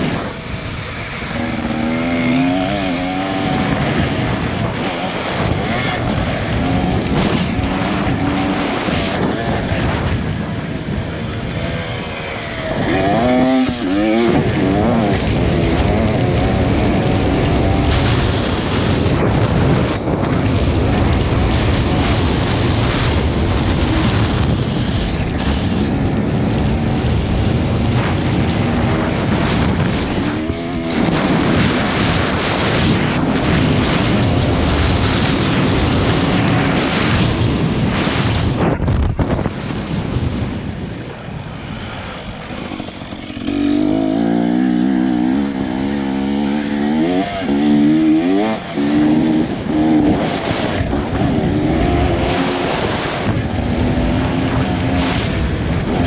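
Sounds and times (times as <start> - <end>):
motocross bike engine revving: 0.0 - 39.8, 41.8 - 56.0
wind buffeting microphone: 0.0 - 56.0.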